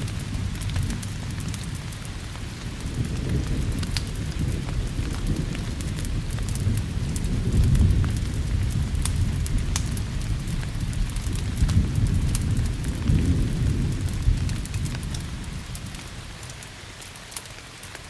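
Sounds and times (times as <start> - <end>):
rumble of thunder: 0.0 - 16.4
steady rain: 0.0 - 18.0
wood fire crackling: 0.0 - 18.0.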